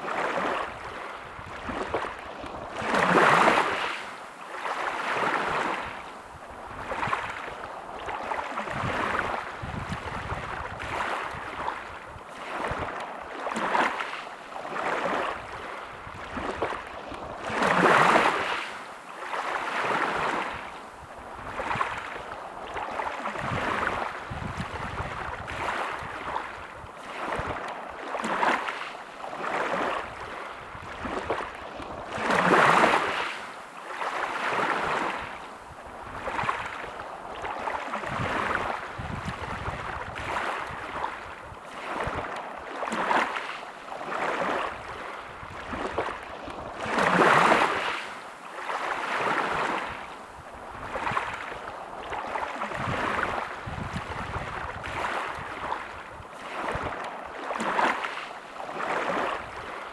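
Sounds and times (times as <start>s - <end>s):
big waves breaking: 0.0s - 59.9s
sea waves washing onto beach: 0.0s - 59.9s.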